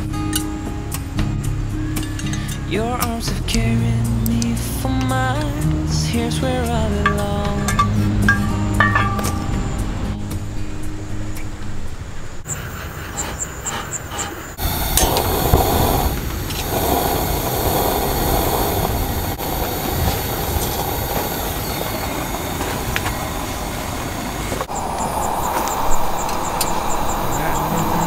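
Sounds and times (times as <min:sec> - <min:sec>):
gas burner hissing: 0:03.6 - 0:28.0.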